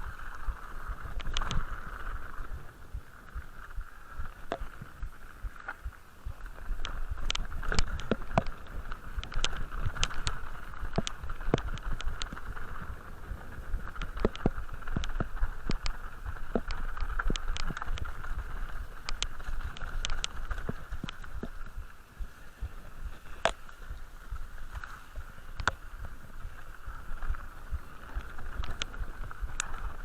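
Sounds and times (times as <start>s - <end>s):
horse hooves on stony track: 0.0s - 30.0s
steady hiss: 0.0s - 30.0s
wind rumbling on microphone: 0.0s - 30.0s.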